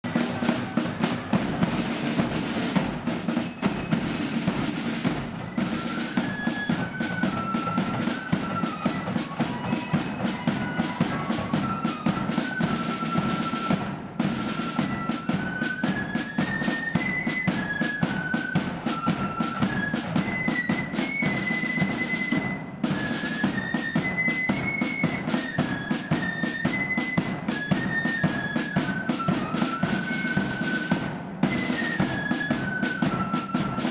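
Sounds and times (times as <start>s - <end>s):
flutes playing a tune: 0.0s - 33.9s
snare drum rolls: 0.0s - 33.9s.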